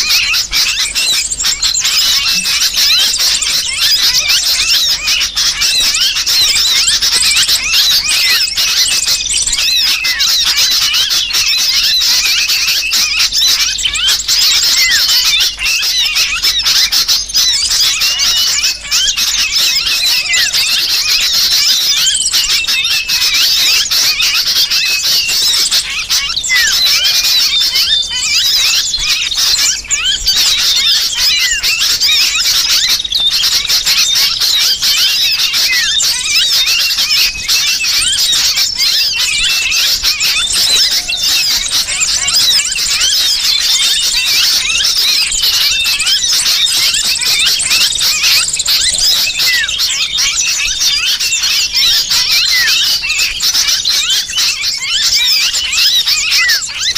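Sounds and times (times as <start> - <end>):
bird distress calls squealing: 0.0 - 56.9
chorus of small birds chirping: 0.0 - 56.9.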